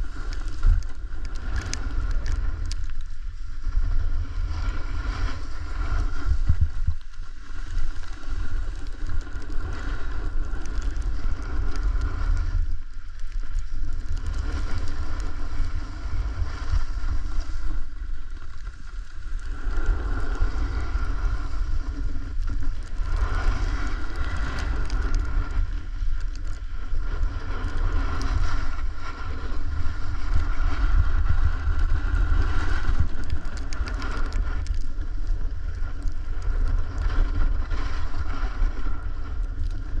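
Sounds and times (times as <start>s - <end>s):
snowboard scraping over snow: 0.0s - 40.0s
wind buffeting microphone: 0.0s - 40.0s.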